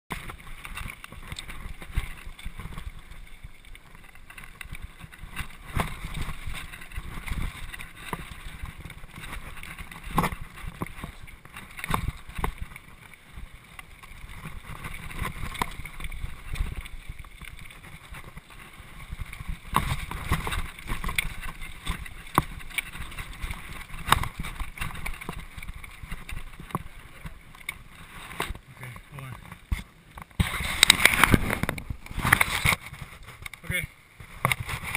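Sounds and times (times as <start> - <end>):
wind on microphone: 0.1 - 33.6
bike knocking and rattling: 0.1 - 34.9
bike tyres rumbling over dirt: 0.1 - 34.9.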